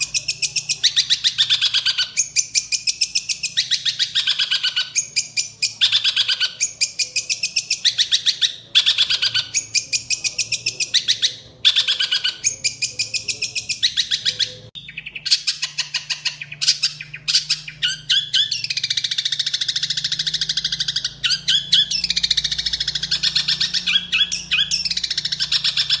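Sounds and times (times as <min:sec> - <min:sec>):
shrike harsh chattering song: 0:00.0 - 0:26.0.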